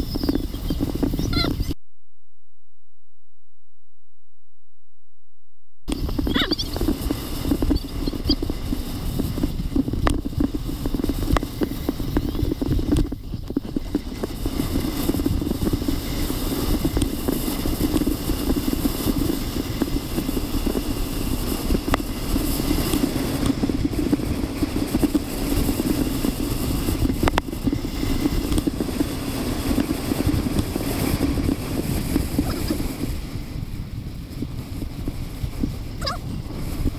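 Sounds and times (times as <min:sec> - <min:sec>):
sled runners scraping over snow: 0:00.0 - 0:01.8, 0:05.9 - 0:36.9.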